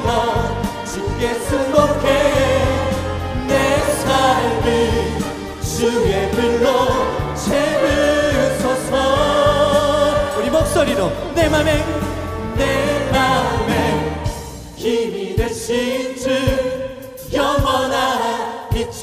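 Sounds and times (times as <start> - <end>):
singer and choir singing: 0.0 - 19.0
worship band playing: 0.0 - 19.0.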